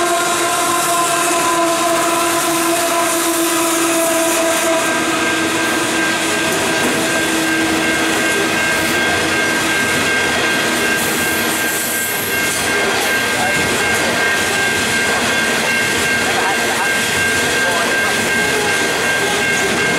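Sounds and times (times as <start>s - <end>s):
diesel locomotive engines: 0.0s - 19.9s
train wagons rolling on rails: 0.0s - 19.9s.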